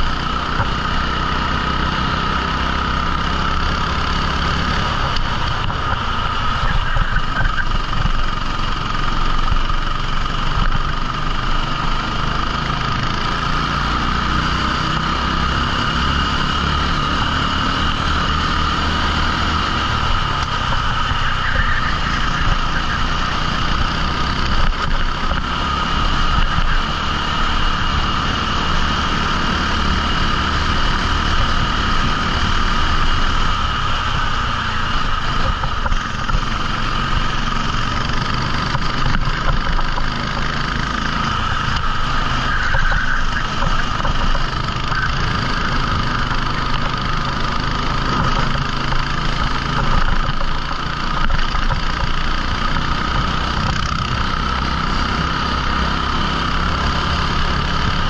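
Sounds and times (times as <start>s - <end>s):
kart engine running: 0.0s - 58.0s.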